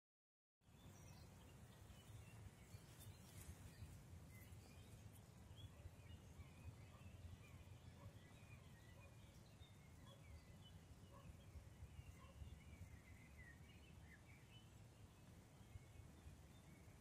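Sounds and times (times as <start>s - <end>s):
distant birds chirping: 0.6s - 17.0s.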